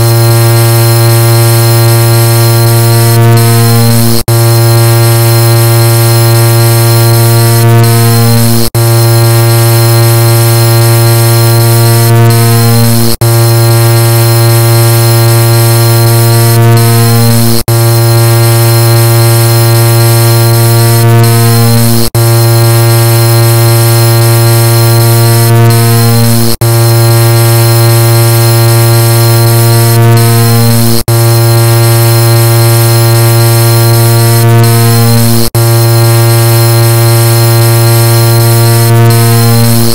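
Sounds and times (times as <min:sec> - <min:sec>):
car horn blaring: 0:00.0 - 0:39.9.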